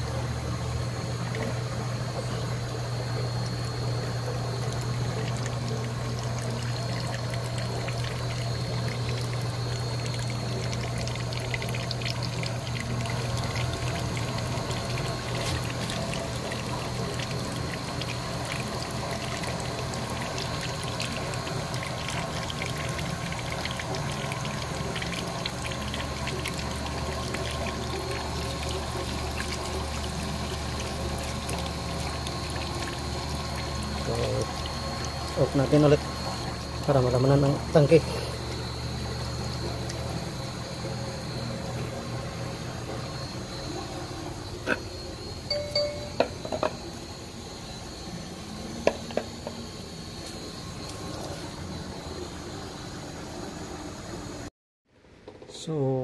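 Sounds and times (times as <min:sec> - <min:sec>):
water pouring from tank: 0:00.0 - 0:45.0
low steady hum: 0:00.0 - 0:54.5.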